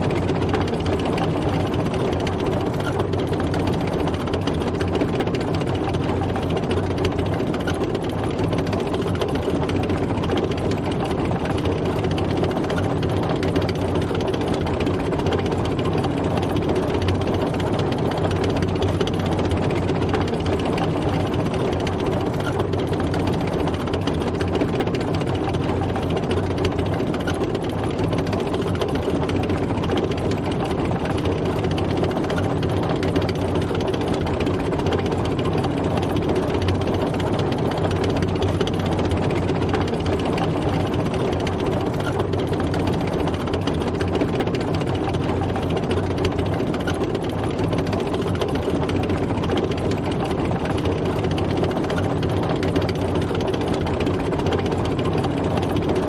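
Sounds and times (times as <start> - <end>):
tank engine running: 0.0 - 56.0.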